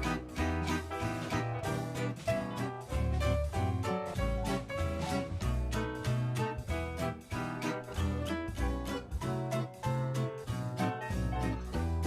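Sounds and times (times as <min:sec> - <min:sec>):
instrumental music with plucked guitar: 0:00.0 - 0:12.0.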